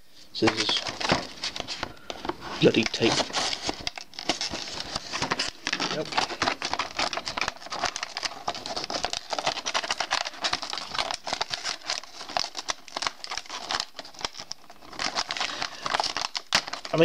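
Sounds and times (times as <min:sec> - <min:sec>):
packaging crinkling and rustling: 0:00.4 - 0:17.0.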